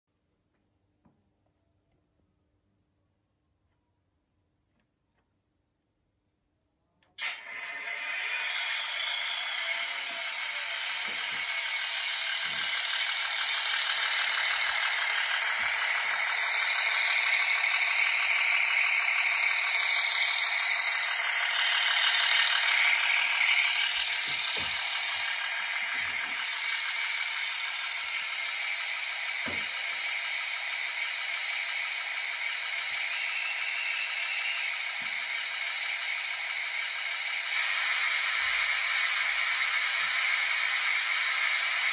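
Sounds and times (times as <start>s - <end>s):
model train rattling whir: 7.2s - 41.9s.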